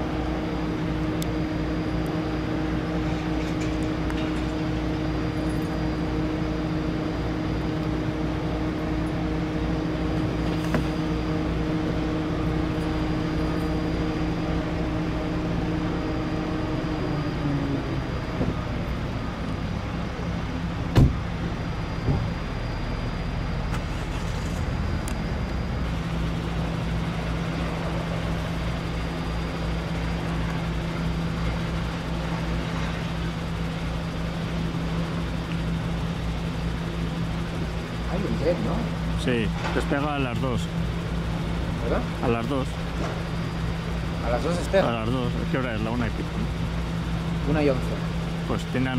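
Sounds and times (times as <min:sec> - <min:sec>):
aircraft engines humming: 0:00.0 - 0:48.9.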